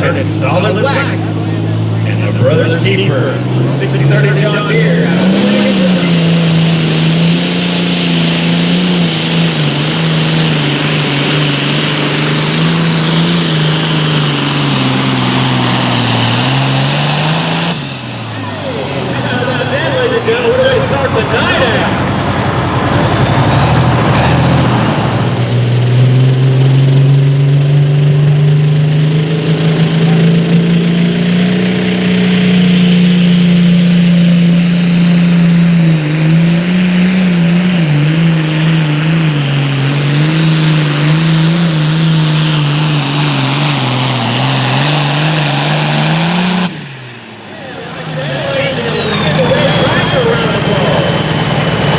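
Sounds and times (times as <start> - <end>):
diesel tractor engine under load: 0.0 - 51.9.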